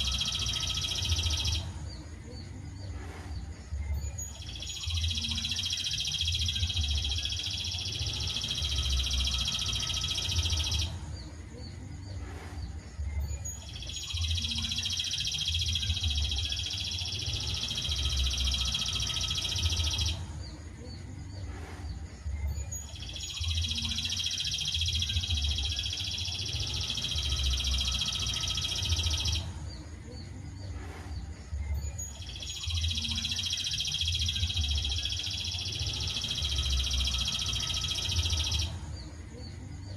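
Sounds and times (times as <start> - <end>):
songbird high chattering song: 0.0 - 39.9.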